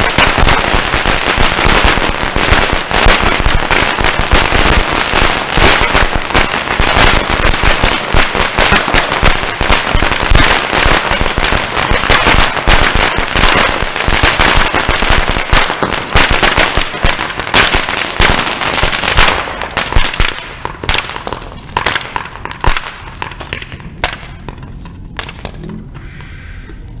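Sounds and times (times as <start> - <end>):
firework fountain hissing: 0.0 - 23.5
firework crackling pops: 0.0 - 25.6.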